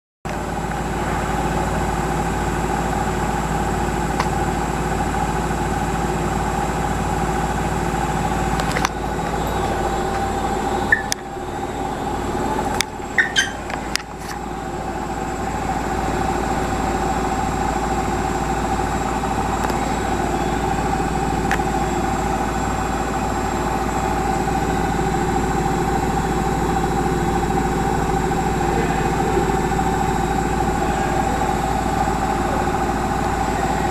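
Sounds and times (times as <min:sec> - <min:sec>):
washing machine spinning: 0:00.3 - 0:33.9.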